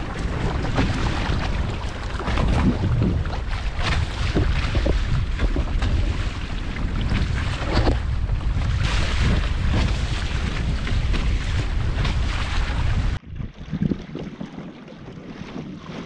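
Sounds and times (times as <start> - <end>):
water splashing along kayak hull: 0.0 - 16.0
wind buffeting microphone: 0.0 - 16.0.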